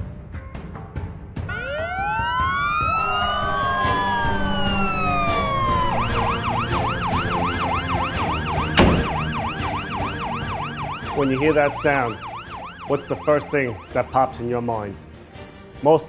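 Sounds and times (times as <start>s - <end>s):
emergency vehicle sirens wailing: 1.5s - 15.1s.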